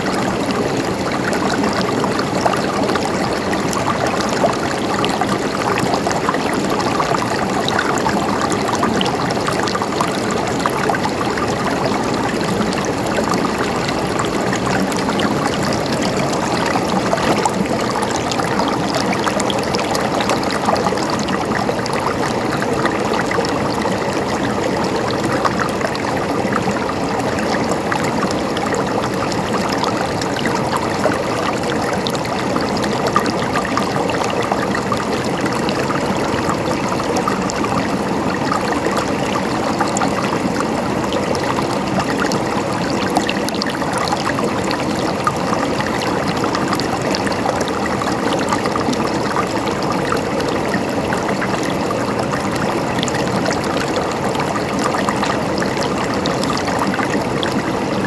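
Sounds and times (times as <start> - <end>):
water flowing and gurgling: 0.0 - 58.0
water splashes and trickles: 0.0 - 58.0.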